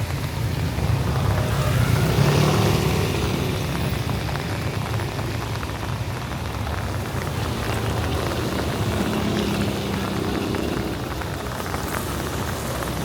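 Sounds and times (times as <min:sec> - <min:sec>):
steady rain falling: 0:00.0 - 0:13.0
street traffic rumble: 0:00.0 - 0:13.0.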